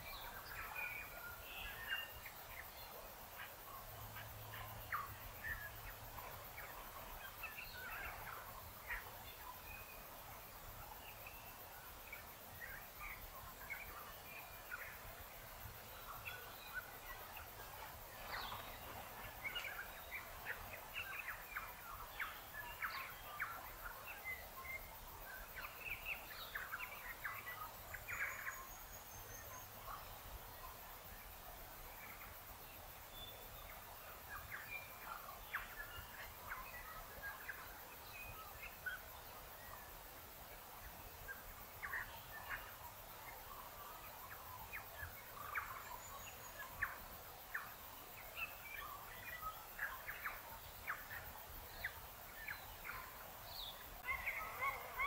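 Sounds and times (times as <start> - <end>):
birds singing and calling: 0.0 - 55.0
faint steady hiss: 0.0 - 55.0.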